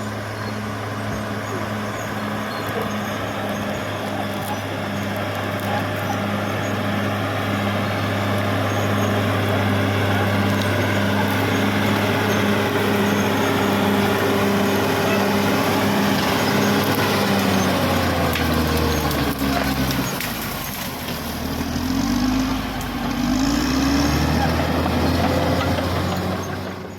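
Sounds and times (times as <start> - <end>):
bulldozer diesel engine under load: 0.0 - 26.9.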